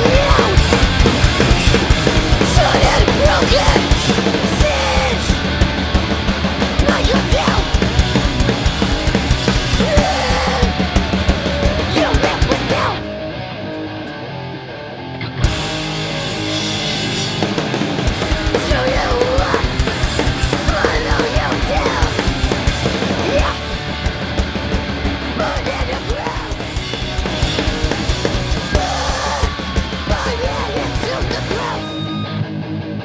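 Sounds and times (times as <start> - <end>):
drums: 0.0 - 33.0
punk band playing live: 0.0 - 33.0.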